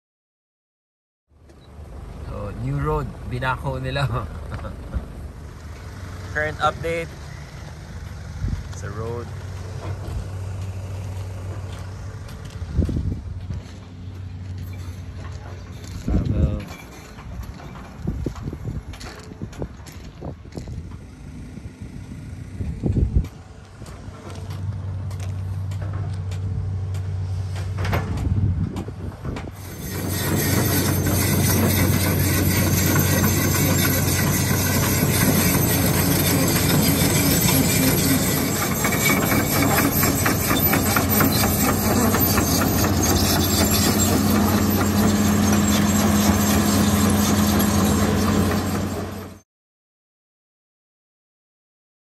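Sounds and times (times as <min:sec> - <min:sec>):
excavator diesel engine clattering: 0:01.6 - 0:49.4.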